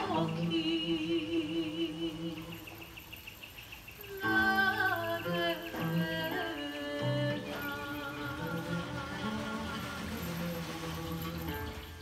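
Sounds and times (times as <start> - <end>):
woman singing a wavering note: 0.0 - 3.0, 4.0 - 10.8
music: 0.0 - 3.3, 3.9 - 12.0.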